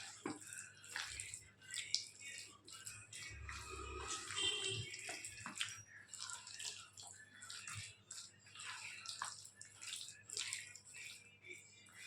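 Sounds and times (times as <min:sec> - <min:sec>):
wet squelching of chicken mixed by hand: 0:00.0 - 0:12.0.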